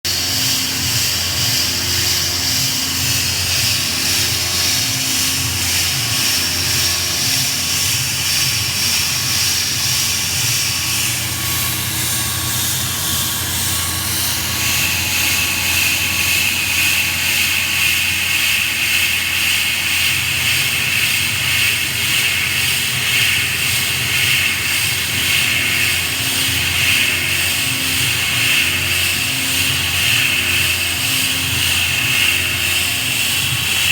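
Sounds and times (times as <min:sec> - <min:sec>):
milling machine whine: 0:00.1 - 0:33.9
pulsing low hum: 0:00.1 - 0:33.9.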